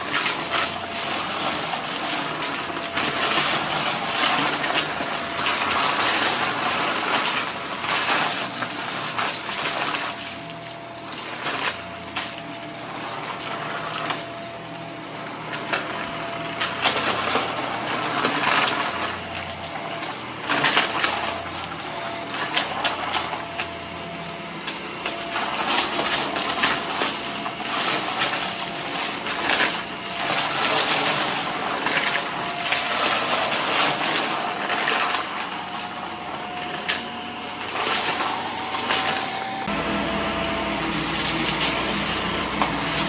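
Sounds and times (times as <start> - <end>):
debris rattling into vacuum: 0.0 - 43.0
vacuum cleaner motor whine: 0.0 - 43.0.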